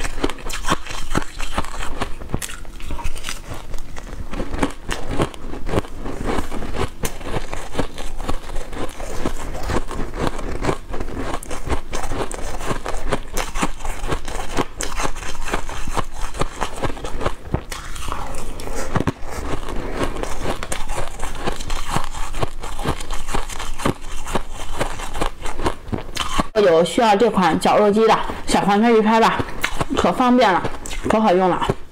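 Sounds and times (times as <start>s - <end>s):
crushed ice being chewed: 0.0s - 26.6s, 29.0s - 31.8s.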